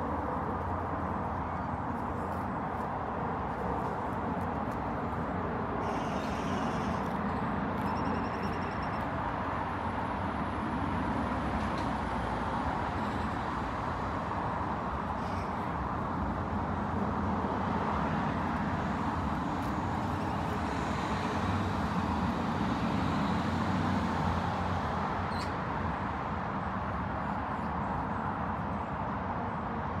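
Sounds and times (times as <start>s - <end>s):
distant road traffic hum: 0.0s - 30.0s.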